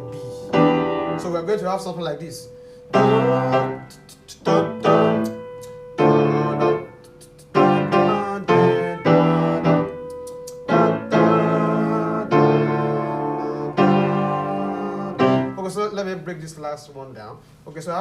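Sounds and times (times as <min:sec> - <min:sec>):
electric piano chords: 0:00.0 - 0:15.8.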